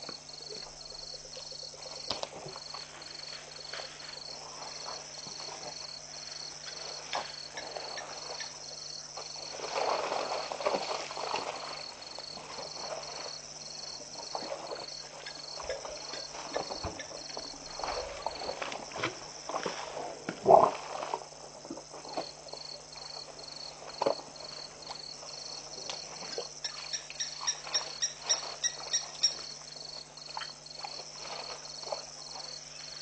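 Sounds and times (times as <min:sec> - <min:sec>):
high insect trill: 0:00.0 - 0:20.1, 0:20.9 - 0:33.0
insect chirping: 0:00.0 - 0:20.2, 0:20.9 - 0:33.0.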